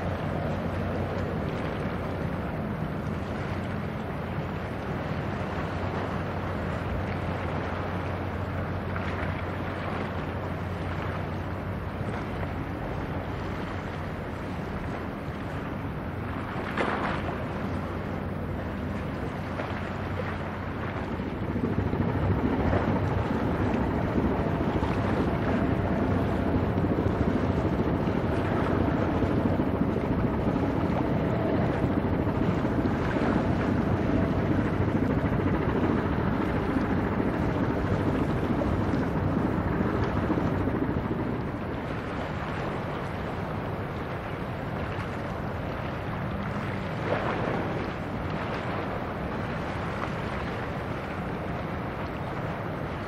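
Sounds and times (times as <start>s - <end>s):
ship engine droning: 0.0s - 53.0s
water rushing: 0.0s - 53.0s
wind on microphone: 0.0s - 53.0s.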